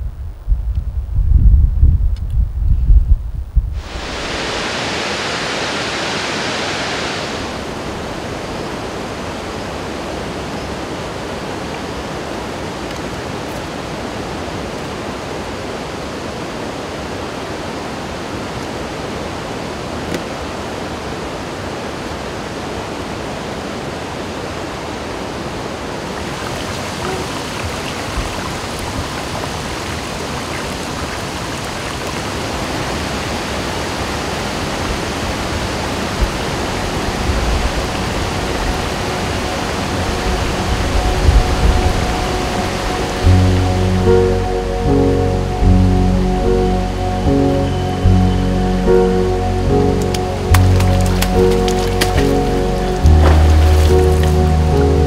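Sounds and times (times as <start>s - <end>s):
waterfall rushing: 3.8s - 45.6s, 47.9s - 55.0s.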